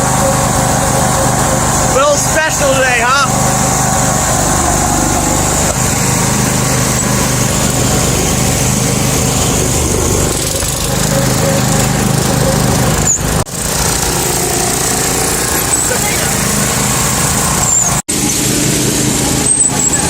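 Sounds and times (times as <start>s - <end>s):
garden tractor engine running: 0.0s - 20.0s.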